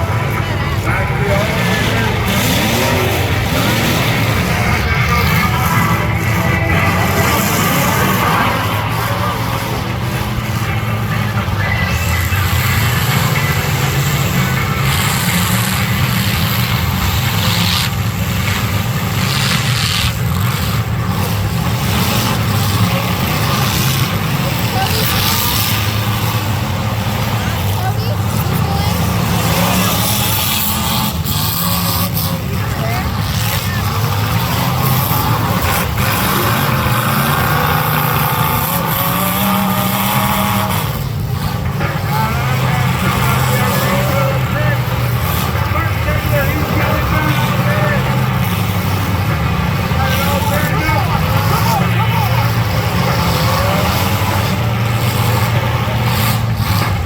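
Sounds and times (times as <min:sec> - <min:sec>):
car engines running loud: 0:00.0 - 0:57.0.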